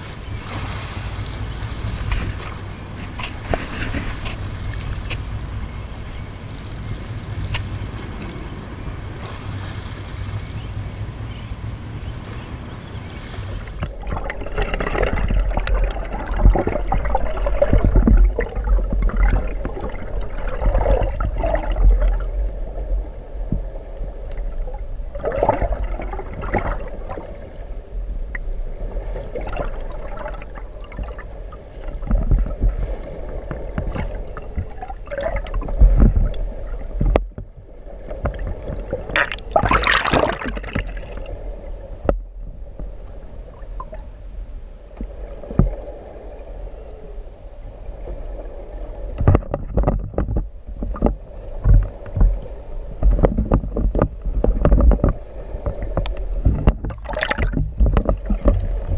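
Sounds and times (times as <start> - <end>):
low steady rumble: 0.0 - 58.9
water churning underwater: 0.0 - 58.9.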